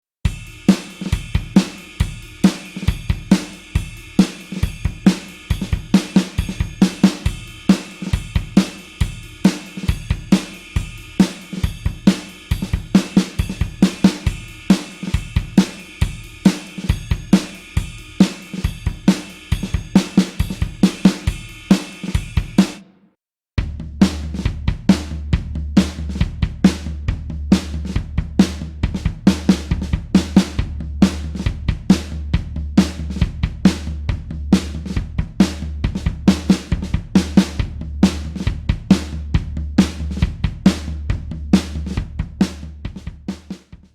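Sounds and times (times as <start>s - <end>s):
drum kit playing rock beat: 0.3s - 22.9s, 23.6s - 43.9s.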